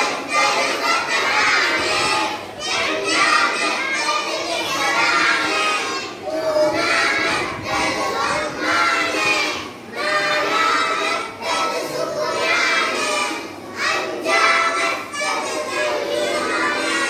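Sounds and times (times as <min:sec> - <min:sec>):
children chanting together: 0:00.0 - 0:17.0.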